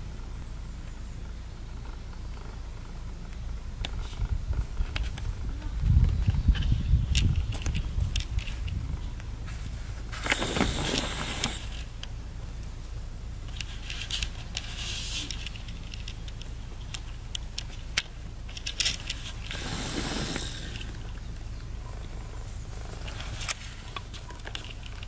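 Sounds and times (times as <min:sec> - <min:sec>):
low steady hum: 0:00.0 - 0:25.0
rustling grass and twigs: 0:00.0 - 0:25.0
rabbit chewing greens: 0:01.8 - 0:25.0.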